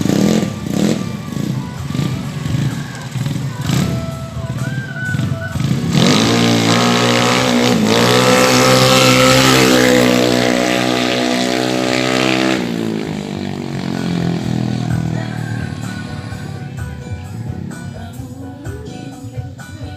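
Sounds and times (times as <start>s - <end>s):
scooter engine revving: 0.0s - 19.1s.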